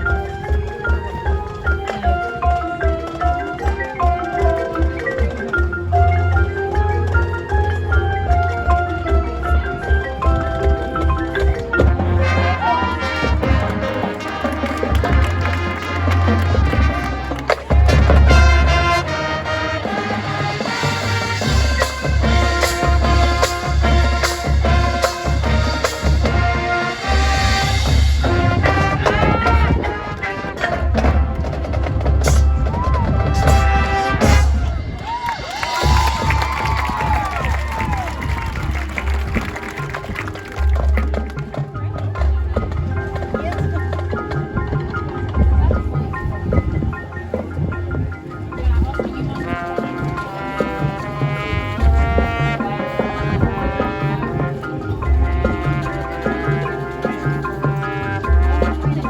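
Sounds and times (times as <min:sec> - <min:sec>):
drumline percussion hits: 0:00.0 - 0:59.0
marching band playing: 0:00.0 - 0:59.0
brass chords: 0:04.3 - 0:42.0, 0:42.6 - 0:59.0.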